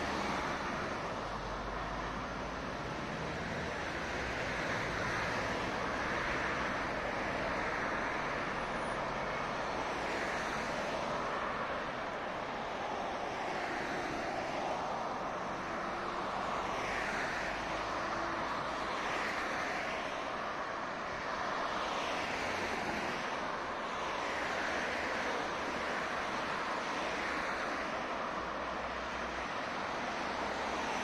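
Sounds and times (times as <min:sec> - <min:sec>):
cars passing: 0:00.0 - 0:31.0
city road traffic: 0:00.0 - 0:31.0.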